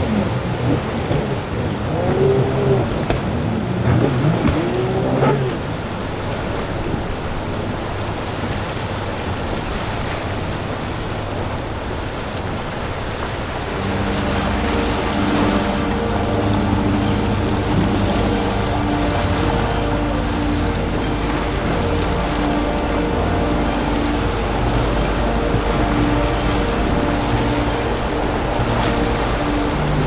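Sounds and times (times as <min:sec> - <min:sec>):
motorboat engines: 0:00.0 - 0:30.0
water rushing: 0:00.0 - 0:30.0
wind: 0:00.0 - 0:30.0.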